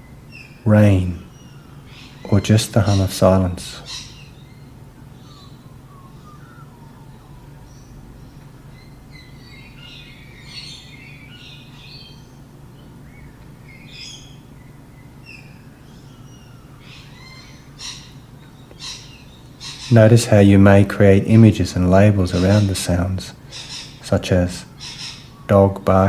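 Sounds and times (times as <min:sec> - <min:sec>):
birds chirping and twittering: 0:00.0 - 0:26.0
steady low hum: 0:00.0 - 0:26.0.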